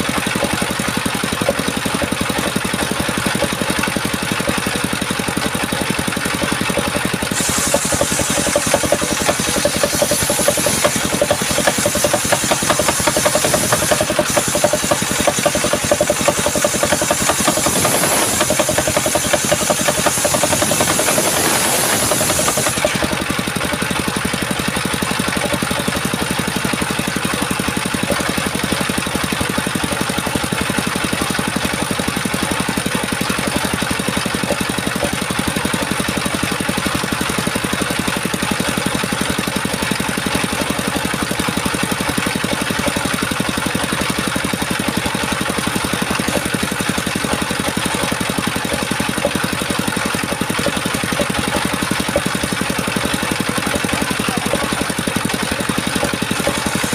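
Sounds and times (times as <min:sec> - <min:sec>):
small engine running steadily: 0:00.0 - 0:56.9.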